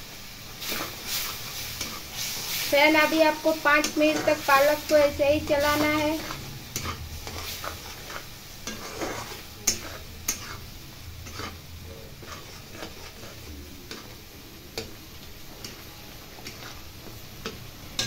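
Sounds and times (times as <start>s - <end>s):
metal spatula scraping a pan: 0.6s - 18.0s.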